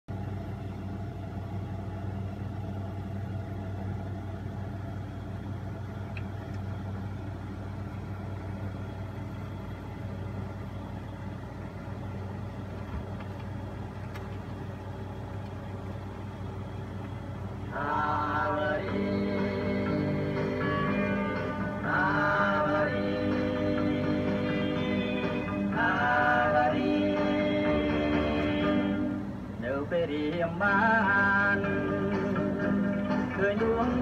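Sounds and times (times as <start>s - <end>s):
turntable hum: 0.1s - 34.0s.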